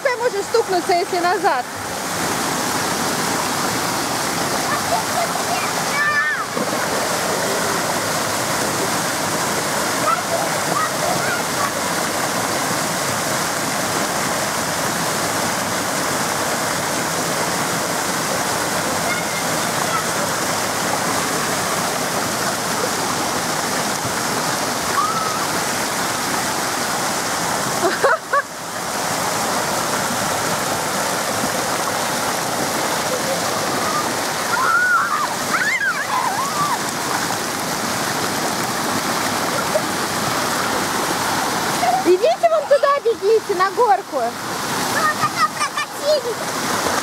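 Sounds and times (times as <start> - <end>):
water rushing and splashing: 0.0 - 47.0.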